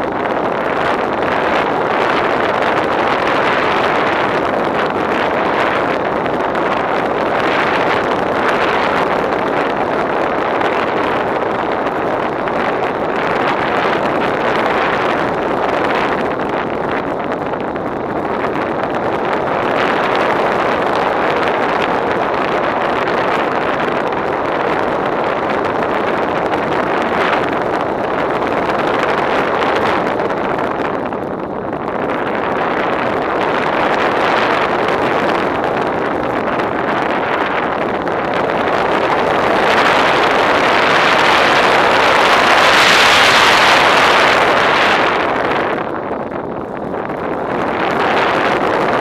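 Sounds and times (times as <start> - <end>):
air rushing over camera: 0.0 - 49.0.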